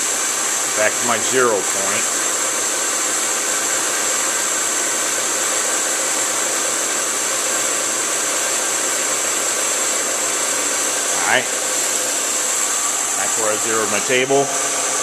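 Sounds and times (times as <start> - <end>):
milling machine humming and whining: 0.0 - 15.0.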